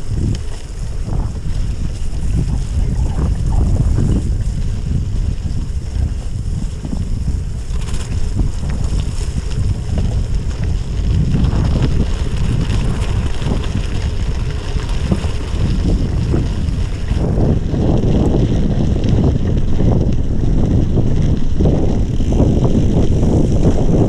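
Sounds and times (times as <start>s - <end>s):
bike tyres crunching on wet gravel: 0.0s - 24.0s
wind buffeting microphone: 0.0s - 24.0s.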